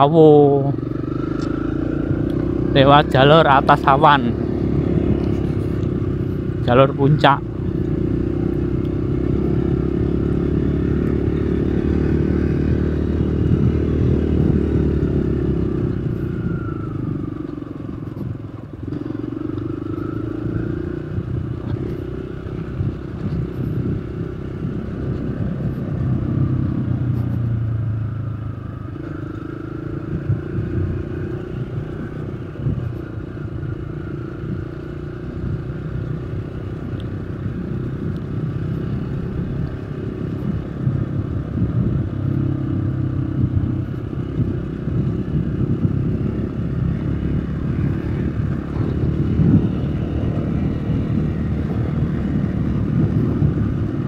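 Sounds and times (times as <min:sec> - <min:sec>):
road noise: 0:00.0 - 0:54.0
vehicle engine running: 0:00.0 - 0:54.0
wind noise: 0:01.1 - 0:19.0, 0:19.9 - 0:54.0.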